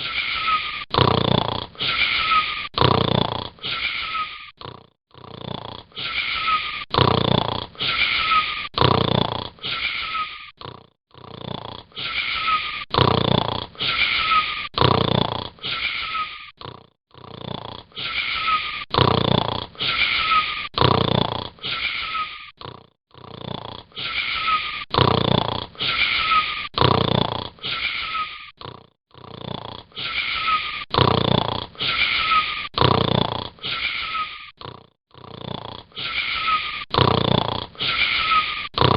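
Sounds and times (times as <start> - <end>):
wheezy snoring: 0.0 - 38.9.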